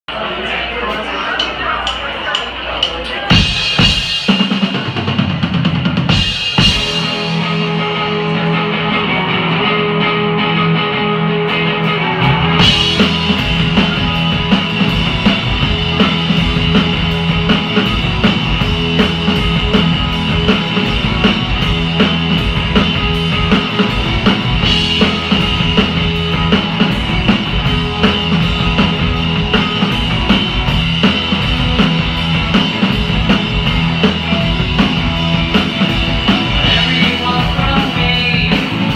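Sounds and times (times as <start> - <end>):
live rock band: 0.1 - 38.9.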